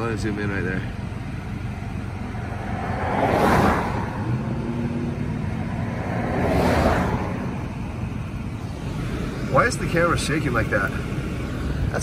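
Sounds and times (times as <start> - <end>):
car interior road rumble: 0.0 - 12.0
vehicles passing with a whoosh: 0.0 - 12.0.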